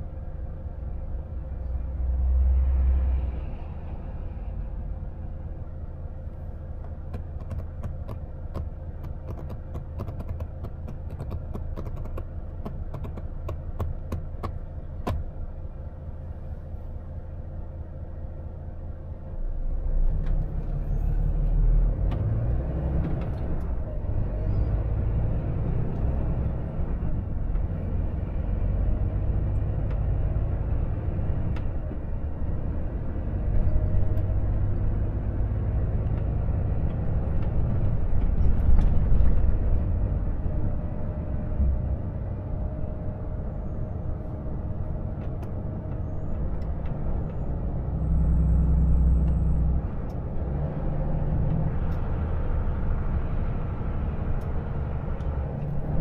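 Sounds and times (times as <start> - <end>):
diesel truck engine: 0.0 - 56.0
road rumble: 0.0 - 56.0.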